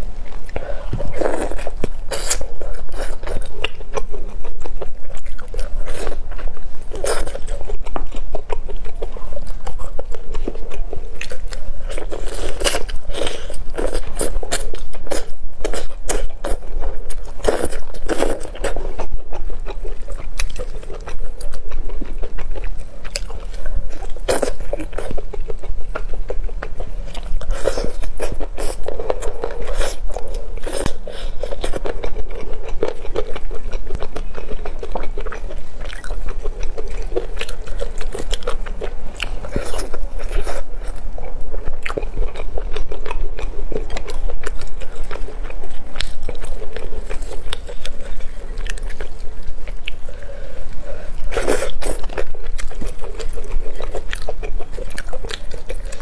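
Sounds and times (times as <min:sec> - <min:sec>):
chewing and mouth sounds: 0:00.2 - 0:56.0.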